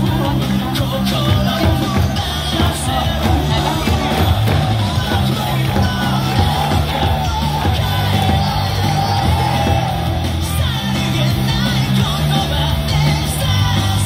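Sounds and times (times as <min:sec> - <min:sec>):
crowd shouting: 0:00.0 - 0:14.0
pop-rock song with vocals: 0:00.0 - 0:14.0.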